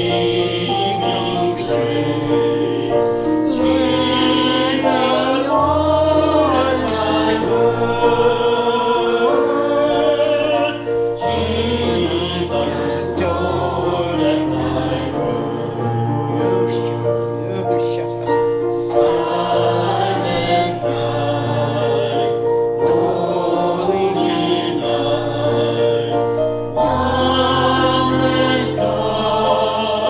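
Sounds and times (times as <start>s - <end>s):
group singing a hymn: 0.0s - 30.0s
instrumental accompaniment: 0.0s - 30.0s.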